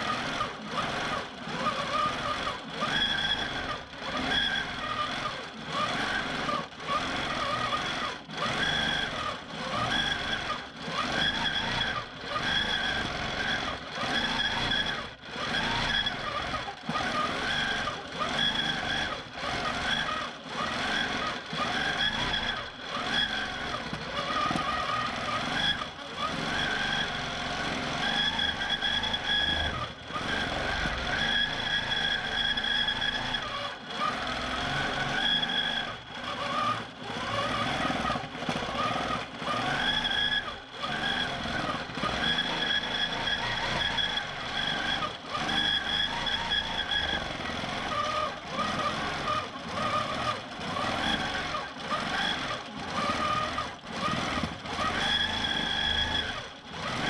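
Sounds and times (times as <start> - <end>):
quilting machine motor whine: 0.0 - 57.0.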